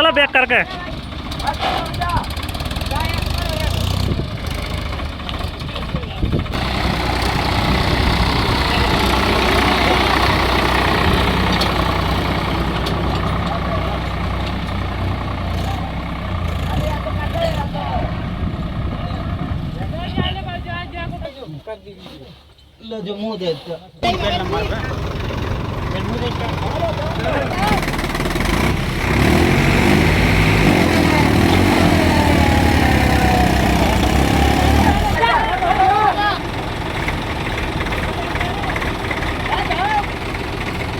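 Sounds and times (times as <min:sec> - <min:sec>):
tractor diesel engines running: 0:00.0 - 0:21.3, 0:24.0 - 0:40.9.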